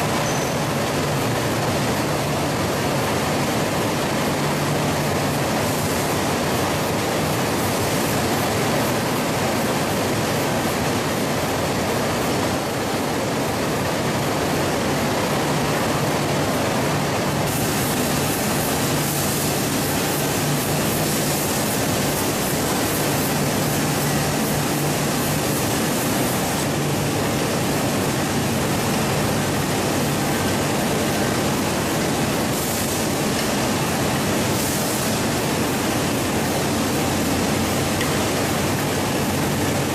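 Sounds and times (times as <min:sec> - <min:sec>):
processing line machinery: 0:00.0 - 0:39.9.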